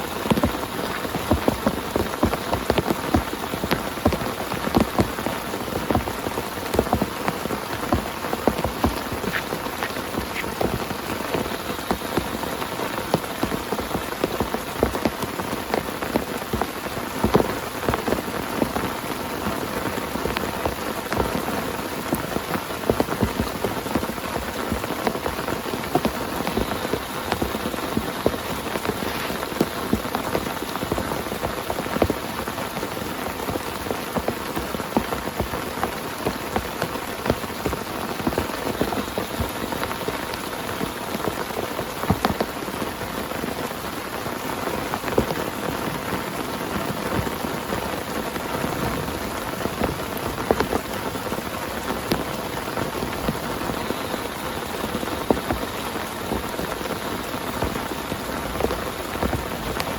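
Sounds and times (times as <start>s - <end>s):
heavy rain on a tent: 0.0s - 59.9s.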